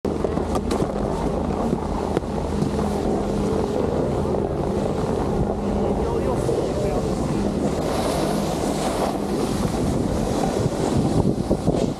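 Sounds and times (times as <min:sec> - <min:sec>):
wind buffeting microphone: 0:00.1 - 0:11.9.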